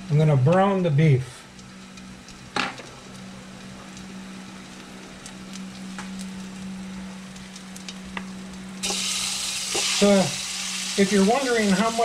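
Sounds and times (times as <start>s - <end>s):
oil sizzling in a wok: 1.4s - 12.0s.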